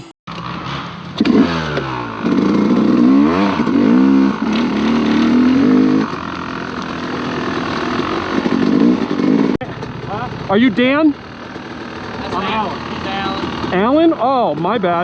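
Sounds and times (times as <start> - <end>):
dirt bike engine revving: 0.3 - 15.0.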